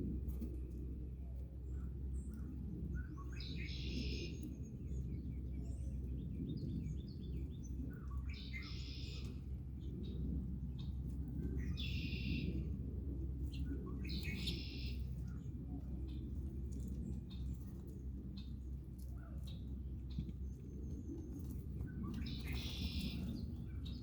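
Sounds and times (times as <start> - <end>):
low rumble: 0.0 - 24.0
songbird singing: 0.2 - 24.0.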